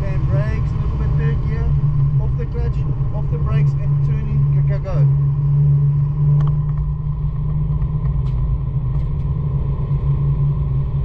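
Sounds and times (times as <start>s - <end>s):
car engine droning: 0.0s - 11.0s
road rumble: 0.0s - 11.0s.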